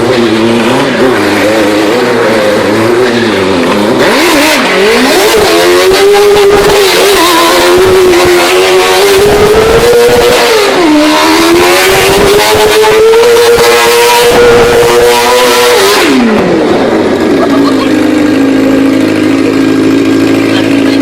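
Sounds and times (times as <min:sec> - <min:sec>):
go-kart engine at high revs: 0:00.0 - 0:21.0.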